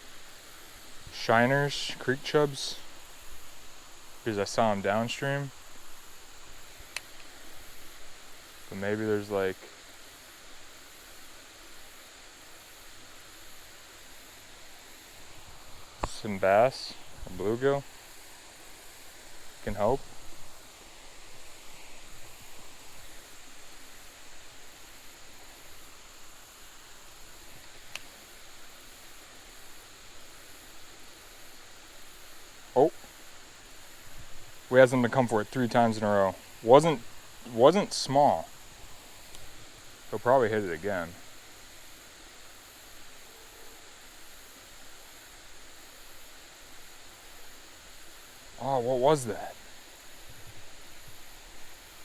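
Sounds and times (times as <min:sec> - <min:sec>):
faint waterfall rushing: 0:00.0 - 0:52.0.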